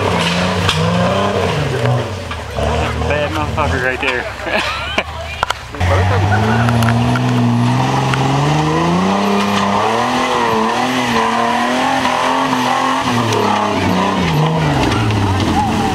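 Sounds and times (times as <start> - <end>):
car engine revving under load: 0.0 - 15.9.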